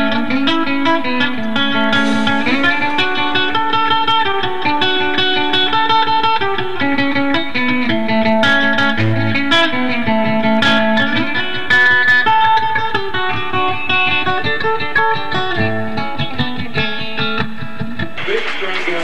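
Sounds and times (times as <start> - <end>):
electric guitars playing: 0.0 - 18.5.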